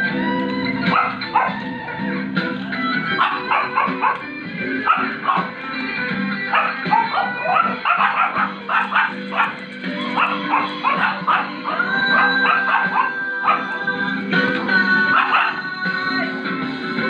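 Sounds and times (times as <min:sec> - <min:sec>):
background music: 0:00.0 - 0:17.0
dogs yipping and whining: 0:00.4 - 0:16.7.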